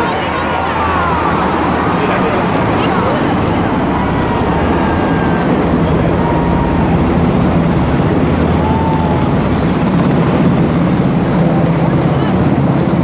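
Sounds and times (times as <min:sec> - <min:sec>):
deep engine hum: 0:00.0 - 0:13.0
helicopter rotor beating: 0:00.0 - 0:13.0.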